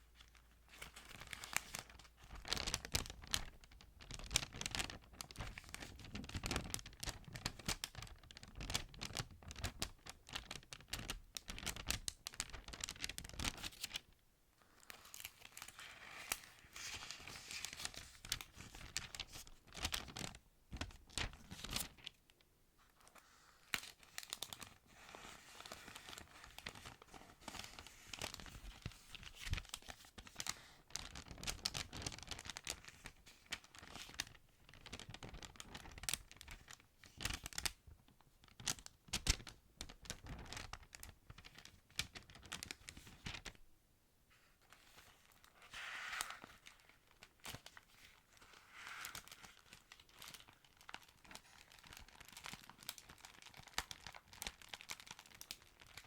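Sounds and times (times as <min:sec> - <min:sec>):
thin paper pages rustling: 0:00.2 - 0:14.1, 0:14.7 - 0:22.2, 0:22.8 - 0:37.8, 0:38.5 - 0:43.6, 0:44.3 - 0:56.0.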